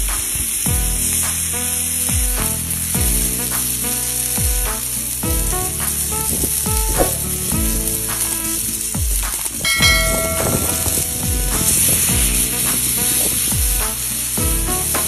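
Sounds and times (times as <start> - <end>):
background music with a beat: 0.0 - 15.0
meat sizzling on a griddle: 0.2 - 9.6, 10.8 - 15.0.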